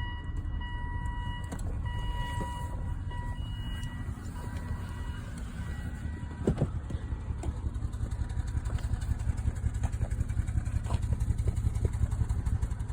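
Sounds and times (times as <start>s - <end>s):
car engine misfiring: 0.0s - 12.9s.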